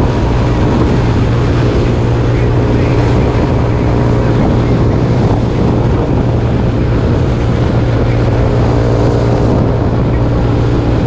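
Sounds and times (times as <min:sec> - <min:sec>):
trike engine running: 0:00.0 - 0:11.0
wind rushing over microphone: 0:00.0 - 0:11.0.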